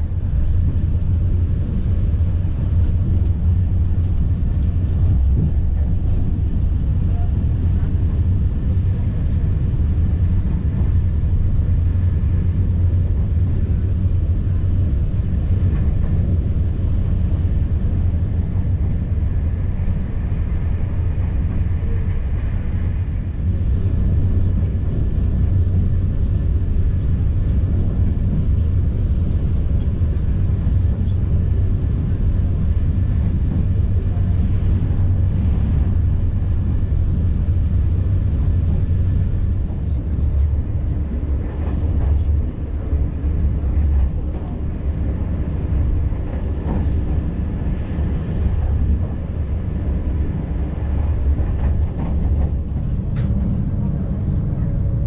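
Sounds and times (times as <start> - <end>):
train wheels rolling on rails: 0.1 - 55.0.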